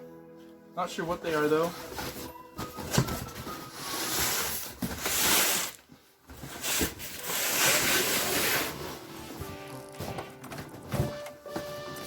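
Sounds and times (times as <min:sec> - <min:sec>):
cardboard rustling and scraping: 0:01.3 - 0:12.0.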